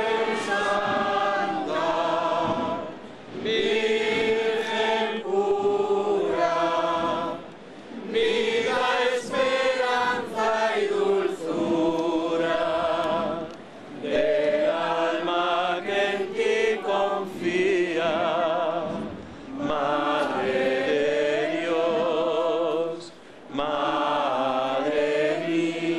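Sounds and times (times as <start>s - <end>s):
crowd singing a hymn: 0.0s - 25.9s.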